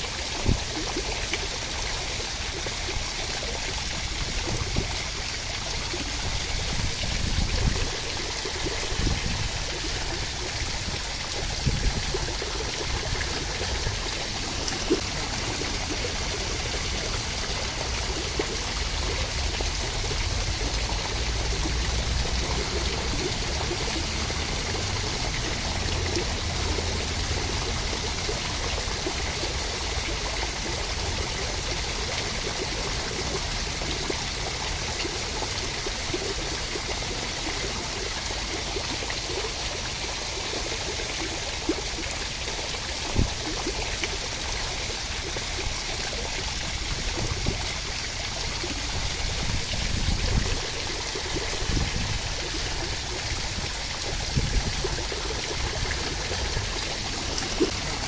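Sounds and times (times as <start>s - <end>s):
steady rain: 7.9s - 35.5s, 36.1s - 58.0s.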